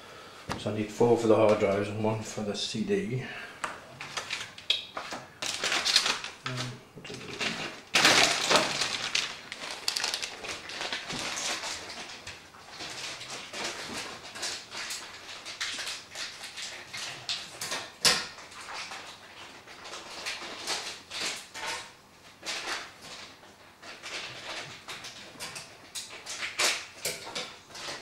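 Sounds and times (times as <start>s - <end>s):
cables and parts rustling: 3.6s - 28.0s.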